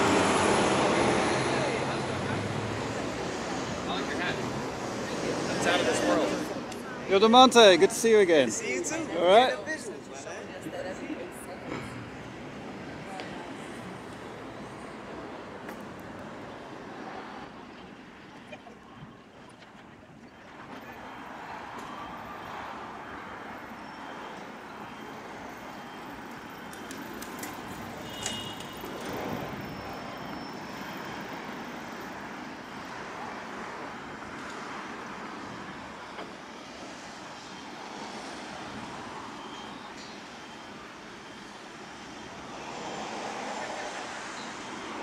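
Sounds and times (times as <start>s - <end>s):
traffic road noise hum: 0.0s - 45.0s.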